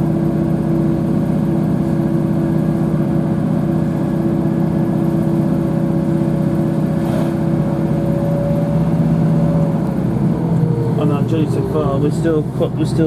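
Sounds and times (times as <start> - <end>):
train engine drone inside carriage: 0.0 - 13.0.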